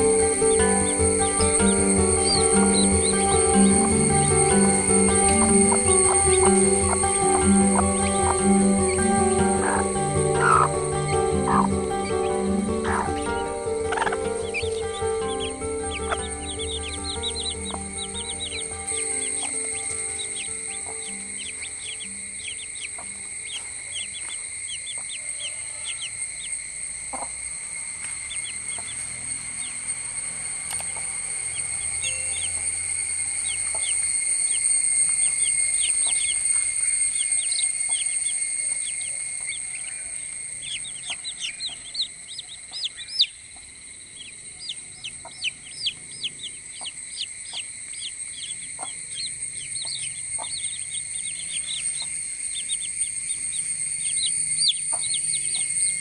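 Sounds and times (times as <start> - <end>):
chicks peeping: 0.0 - 27.3, 28.0 - 30.0, 33.4 - 55.9
high-pitched ringing tone: 0.0 - 56.0.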